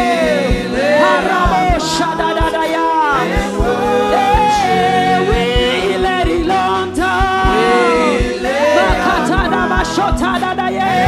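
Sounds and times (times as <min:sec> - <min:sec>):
person singing: 0:00.0 - 0:11.0
sustained keyboard chords: 0:00.0 - 0:11.0
low drum beat: 0:00.5 - 0:10.6.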